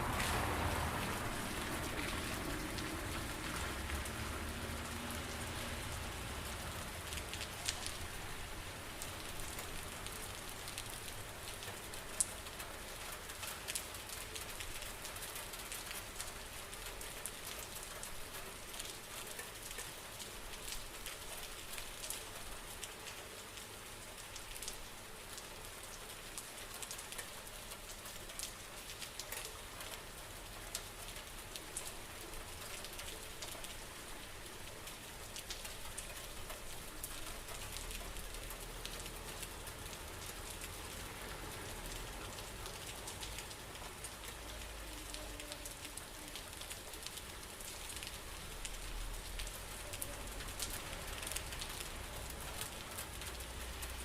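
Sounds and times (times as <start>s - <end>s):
rain falling: 0.0s - 54.0s
raindrops ticking: 0.0s - 54.0s.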